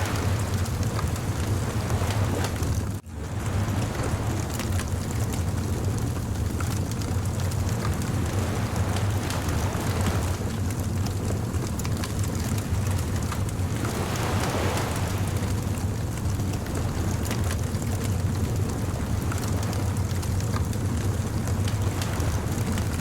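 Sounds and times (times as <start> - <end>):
bonfire crackling and popping: 0.0 - 23.0
ocean surf: 0.0 - 23.0.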